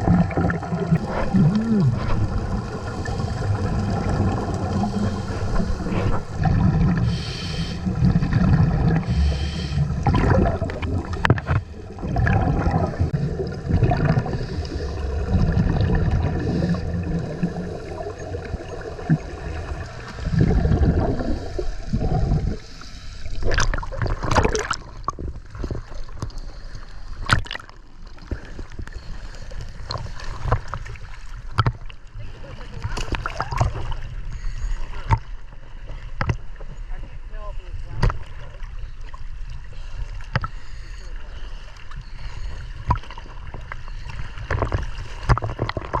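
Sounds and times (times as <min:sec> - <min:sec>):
water bubbling and gurgling: 0:00.0 - 0:46.0.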